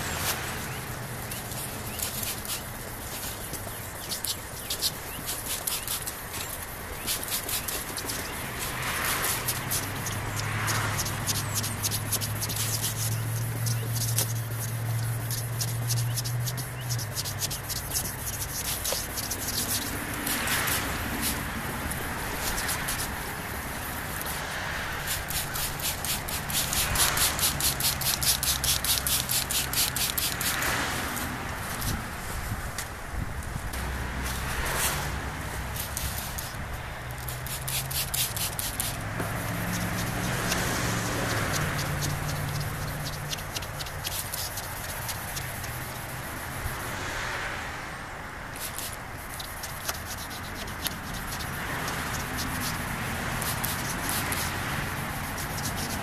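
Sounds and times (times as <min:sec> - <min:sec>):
scratchy sanding strokes: 0:00.0 - 0:32.6, 0:33.8 - 0:47.3, 0:48.5 - 0:56.0.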